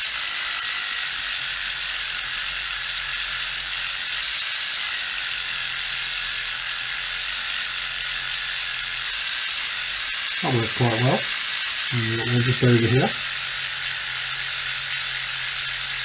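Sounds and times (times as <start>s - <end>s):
reciprocating sander buzzing: 0.0s - 16.0s.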